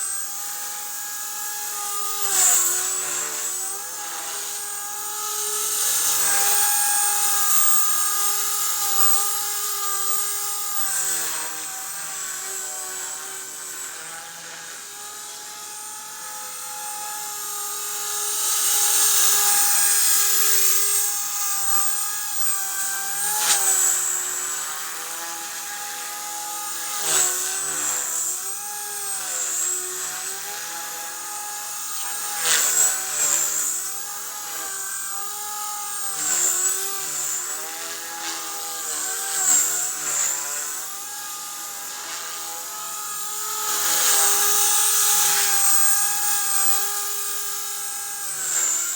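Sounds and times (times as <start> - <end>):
rc helicopter motor whine: 0.0 - 48.9.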